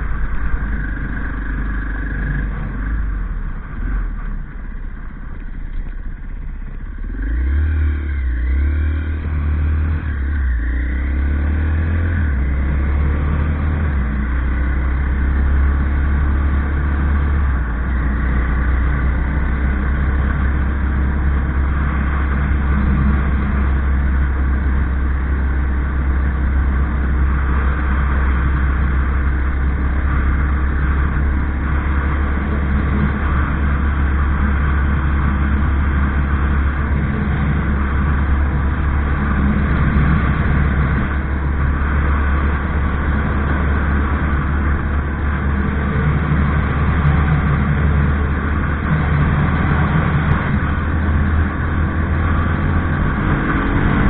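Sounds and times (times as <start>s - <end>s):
road noise: 0.0s - 54.0s
vehicle engine drone: 0.0s - 54.0s
wind noise: 8.5s - 54.0s.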